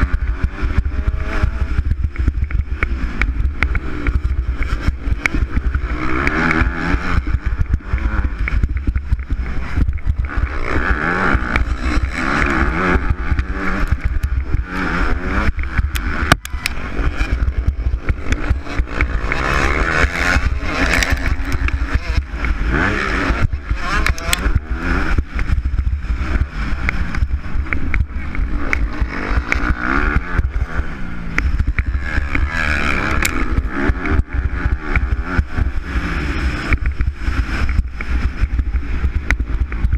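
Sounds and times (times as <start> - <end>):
motocross bike engine revving: 0.0 - 39.9
wind rumble on microphone: 0.0 - 39.9.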